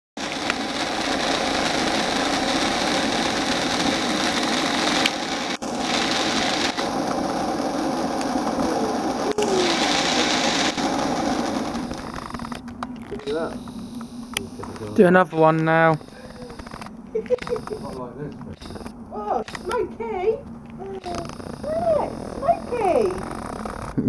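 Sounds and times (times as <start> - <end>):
firework fountain hissing: 0.2 - 24.0.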